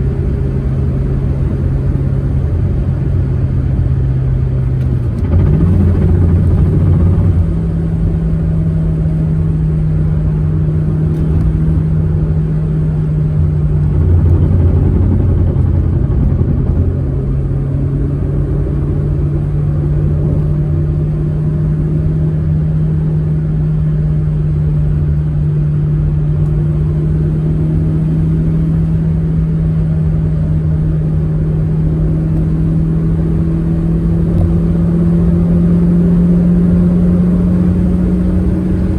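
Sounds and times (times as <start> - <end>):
car engine humming: 0.0 - 38.9
low road rumble: 0.0 - 38.9.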